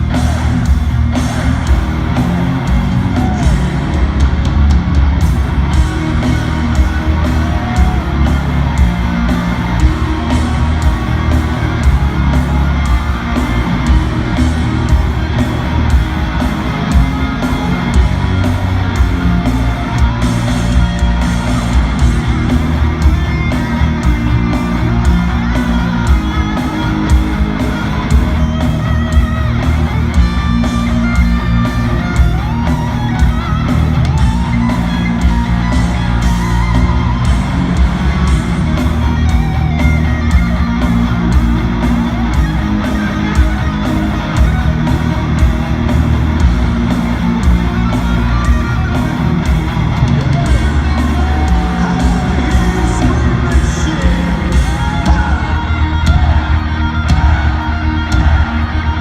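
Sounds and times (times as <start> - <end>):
voices singing or yelling: 0.0 - 4.5, 5.2 - 59.0
heavy rock music: 0.0 - 59.0.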